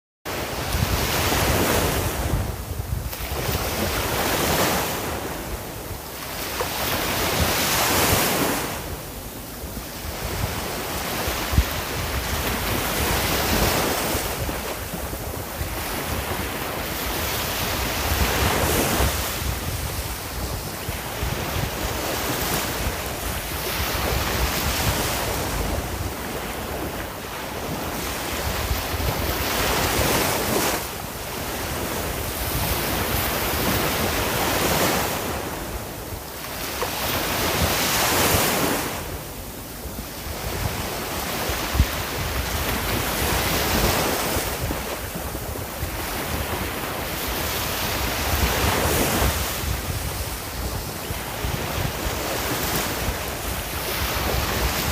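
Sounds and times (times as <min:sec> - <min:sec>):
waves breaking on shore: 0:00.3 - 0:54.9
wind on microphone: 0:00.3 - 0:54.9.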